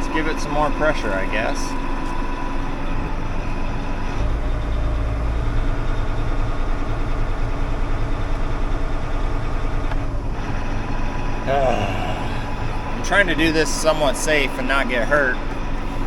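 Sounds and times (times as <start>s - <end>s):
farm machine engine running: 0.0s - 16.0s.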